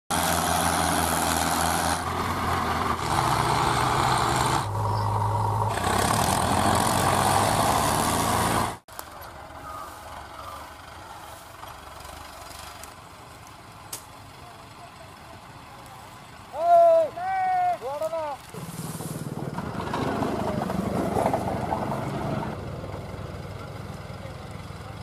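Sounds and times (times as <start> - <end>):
tractor engines running: 0.1 - 25.0.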